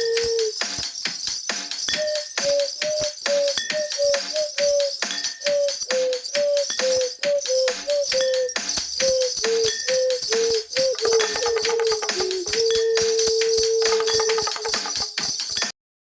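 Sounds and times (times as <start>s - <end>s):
percussion hits: 0.0s - 15.8s
ocarina melody: 2.0s - 15.1s.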